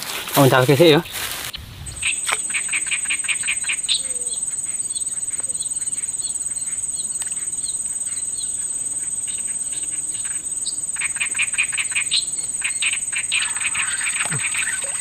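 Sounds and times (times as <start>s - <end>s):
insect chirps: 0.0s - 15.0s
insects droning: 0.0s - 15.0s.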